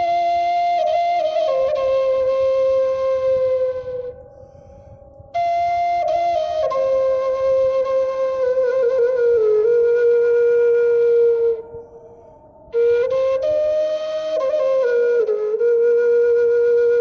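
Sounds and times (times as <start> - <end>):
wooden flute slow melody: 0.0 - 17.0.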